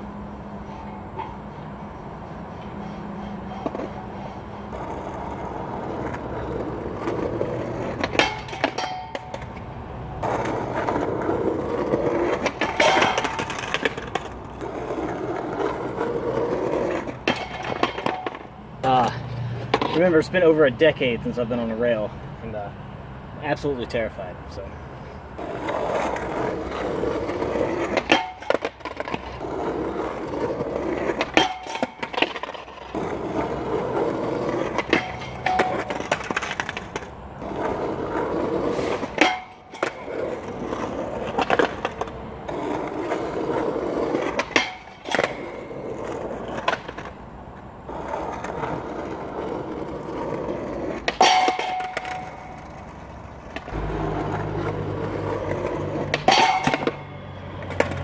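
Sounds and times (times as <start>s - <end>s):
skateboard clacking: 0.0s - 19.1s, 19.7s - 20.2s, 25.4s - 58.0s
skateboard wheels rolling on asphalt: 0.0s - 58.0s.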